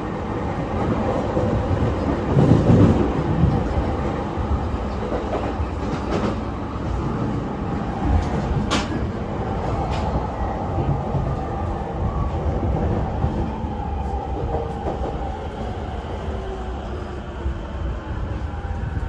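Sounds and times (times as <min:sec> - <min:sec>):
train car running noise: 0:00.0 - 0:19.0.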